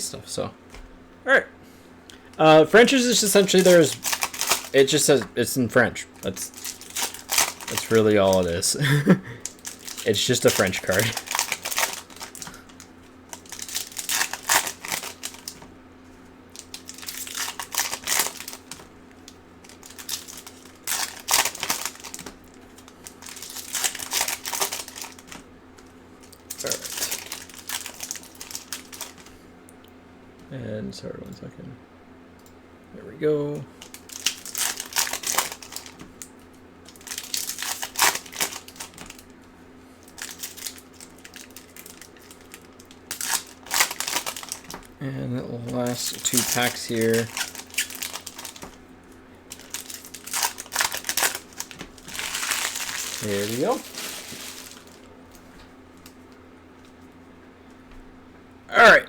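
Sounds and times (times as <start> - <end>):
foil wrappers crinkling: 2.8 - 5.3, 6.2 - 29.4, 33.7 - 39.4, 40.0 - 45.0, 45.6 - 57.1.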